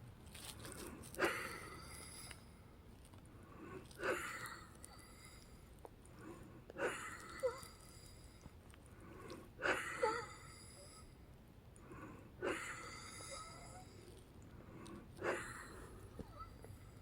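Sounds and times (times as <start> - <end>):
woman's labored breathing: 0.6 - 2.6, 3.4 - 11.2, 11.8 - 17.0.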